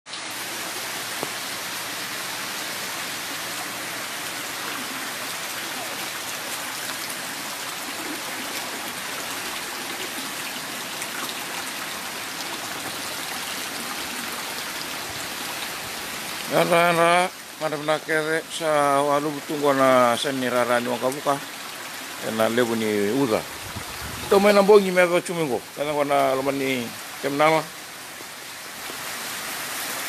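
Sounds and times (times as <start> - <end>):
heavy rain hissing: 0.1 - 30.0.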